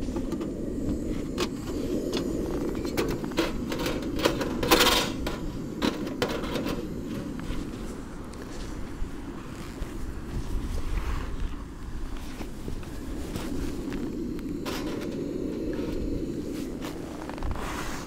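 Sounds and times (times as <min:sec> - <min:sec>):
camp stove burner rushing: 0:00.0 - 0:18.0.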